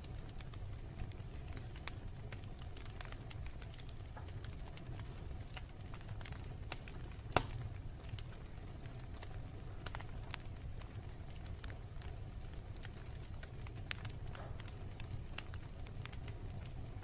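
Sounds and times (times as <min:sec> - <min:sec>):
fire popping and crackling: 0:00.0 - 0:17.0
wood fire rumbling: 0:00.0 - 0:17.0.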